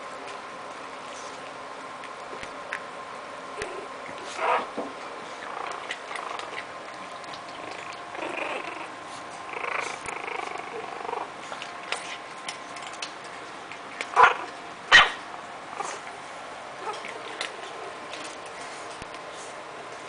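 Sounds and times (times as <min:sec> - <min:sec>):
puppies growling and scuffling: 0:00.0 - 0:20.0.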